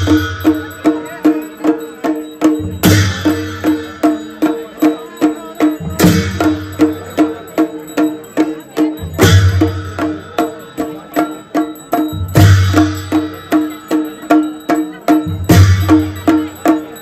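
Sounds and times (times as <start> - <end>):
folk drums in steady rhythm: 0.0 - 17.0
heavy drum boom with clashing ring: 0.0 - 17.0.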